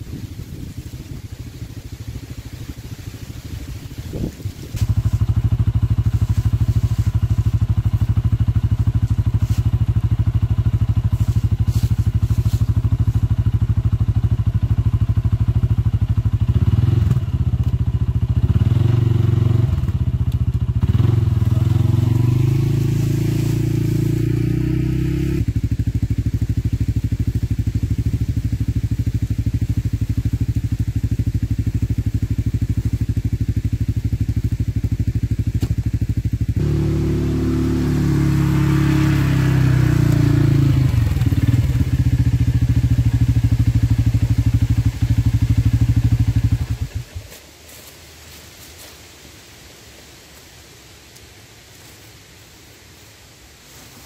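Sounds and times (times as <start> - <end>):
steady engine running close by: 0.0 - 49.1
atv engine revving: 0.8 - 47.2.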